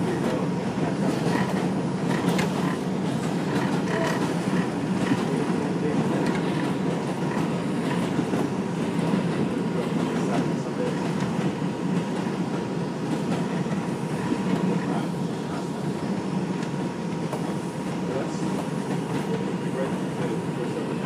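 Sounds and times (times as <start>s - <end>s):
rail joint clicks: 0.0s - 20.6s
subway train wheels rumbling: 0.0s - 21.0s.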